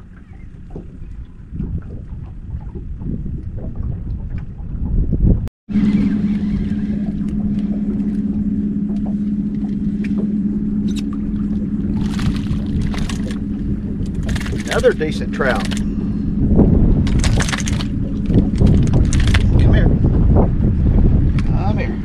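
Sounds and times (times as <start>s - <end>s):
water splashing: 0.0s - 19.7s
boat motor humming: 0.0s - 22.0s.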